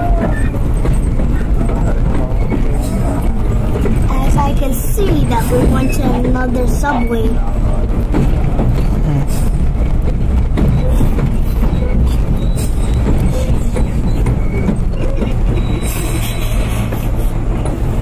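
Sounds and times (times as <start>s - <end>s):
subway train rumble: 0.0s - 18.0s
wheels clicking over rail joints: 0.0s - 18.0s.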